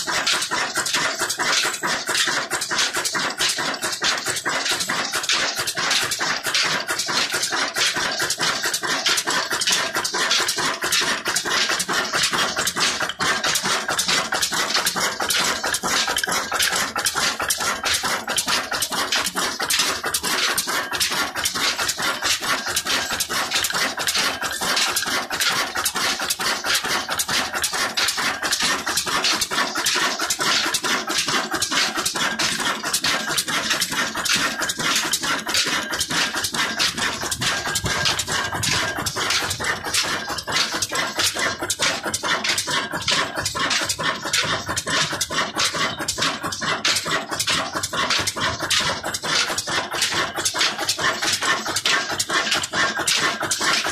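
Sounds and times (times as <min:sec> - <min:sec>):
stationary diesel engine clattering: 0:00.0 - 0:53.9.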